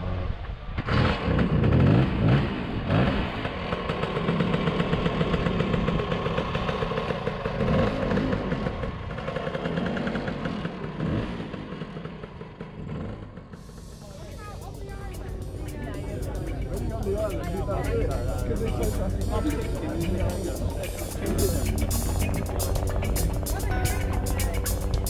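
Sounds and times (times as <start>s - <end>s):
motor scooter engines revving: 0.0s - 25.0s.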